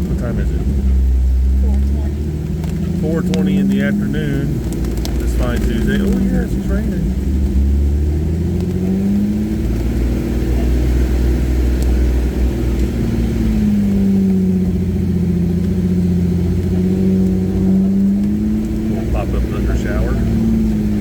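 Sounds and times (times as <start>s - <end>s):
engine working at low speed: 0.0s - 21.0s.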